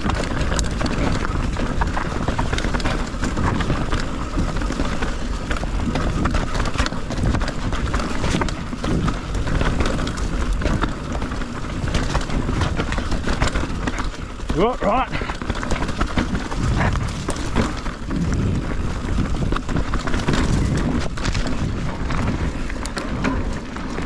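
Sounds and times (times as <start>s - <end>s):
bike rattling over bumps: 0.0s - 24.0s
bike tyres rumbling over dirt: 0.0s - 24.0s.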